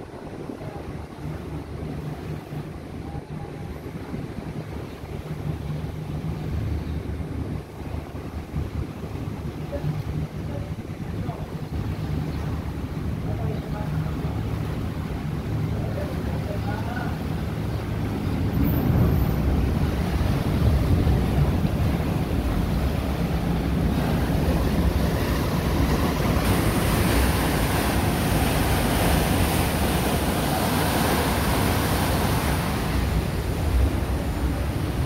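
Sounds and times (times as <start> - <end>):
ferry engine rumble: 0.0 - 35.0
water churning along hull: 0.0 - 35.0
wind buffeting microphone: 0.0 - 35.0.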